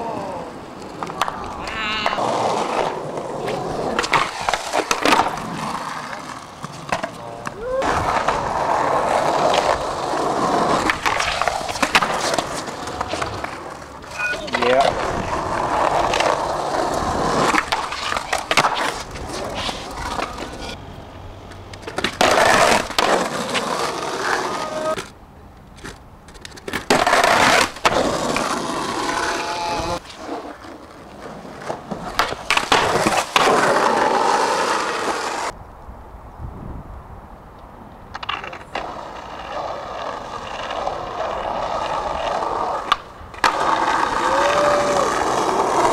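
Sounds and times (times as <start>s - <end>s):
skateboard wheels rolling: 0.0s - 45.9s
skateboard clacks: 0.8s - 20.8s, 21.4s - 35.6s, 38.1s - 45.9s.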